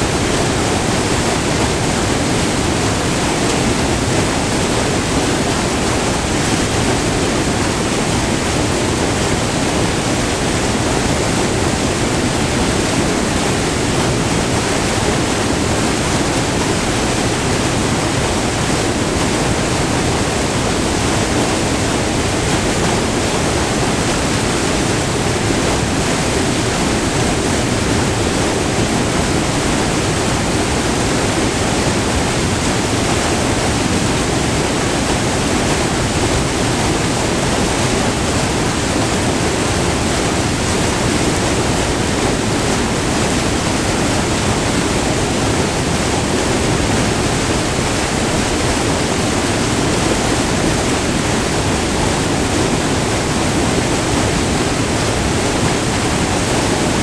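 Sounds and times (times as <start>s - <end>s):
waterfall white-water rush: 0.0s - 57.0s.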